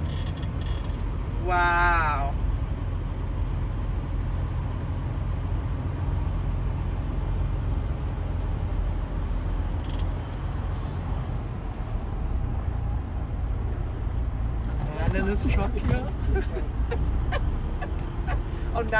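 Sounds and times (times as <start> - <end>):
truck diesel engine rumbling: 0.0 - 18.9.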